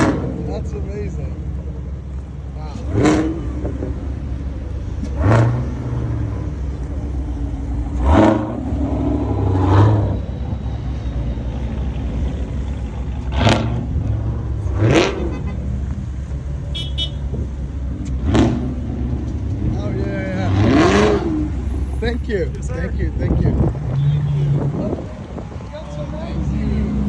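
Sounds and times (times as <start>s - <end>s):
cars revving past: 0.0s - 27.0s
steady engine rumble: 0.0s - 27.0s.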